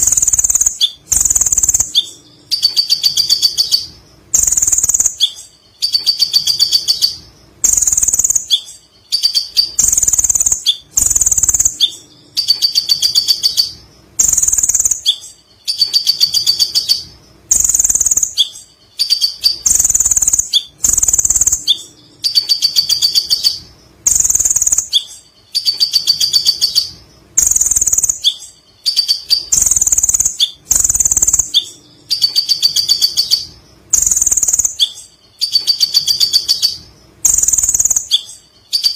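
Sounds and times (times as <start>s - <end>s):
sunbird trilling: 0.0s - 38.9s.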